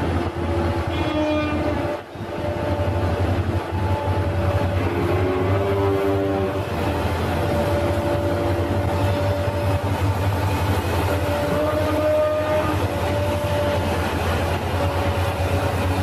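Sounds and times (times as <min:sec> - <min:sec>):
diesel engine drone: 0:01.6 - 0:16.0.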